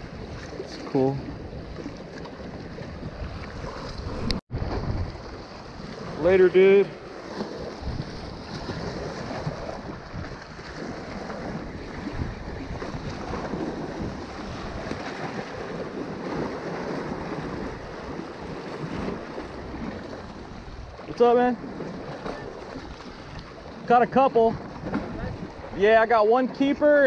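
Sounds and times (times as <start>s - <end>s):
wind buffeting microphone: 0.0s - 26.0s
waves breaking against rocks: 0.0s - 27.0s.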